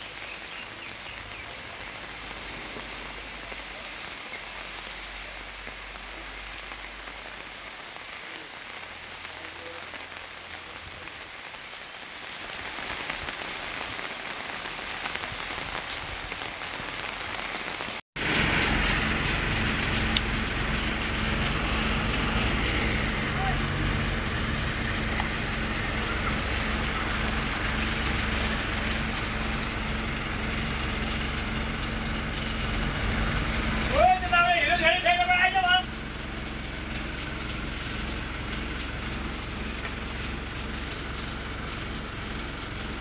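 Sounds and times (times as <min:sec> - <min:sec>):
low vehicle engine hum: 0:00.0 - 0:11.6, 0:18.2 - 0:43.0
heavy rain on pavement: 0:00.0 - 0:43.0.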